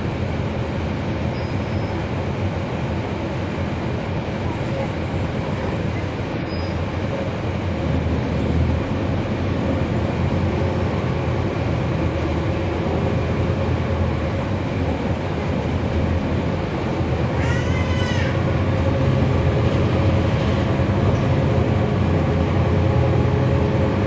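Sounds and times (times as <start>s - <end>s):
bus diesel engine rumble: 0.0s - 24.0s
road noise: 0.0s - 24.0s.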